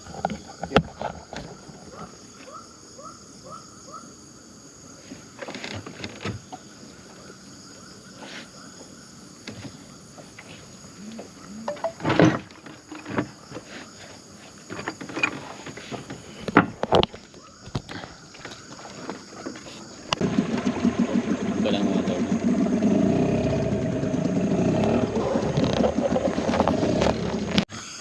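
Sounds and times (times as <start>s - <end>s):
high insect chorus: 0.0s - 28.0s.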